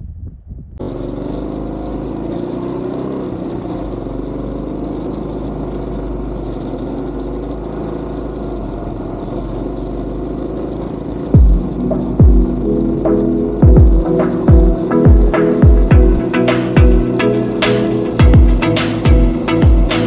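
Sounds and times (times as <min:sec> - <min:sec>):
road and wind noise: 0:00.0 - 0:20.0
motorcycle engine running: 0:00.7 - 0:20.0.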